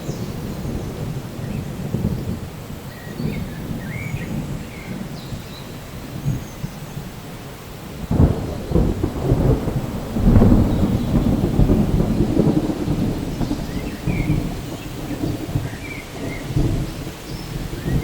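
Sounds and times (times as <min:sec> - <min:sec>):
thunder crack and rumble: 0:00.0 - 0:07.2, 0:07.8 - 0:18.0
steady rain: 0:00.0 - 0:18.0.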